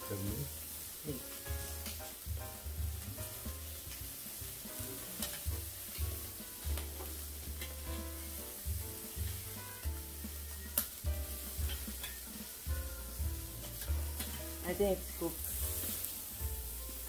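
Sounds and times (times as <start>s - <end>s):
background music with beat: 0.0s - 14.8s, 15.4s - 17.0s
fish sizzling on grill: 0.0s - 17.0s
tongs scraping grill grate: 3.2s - 17.0s.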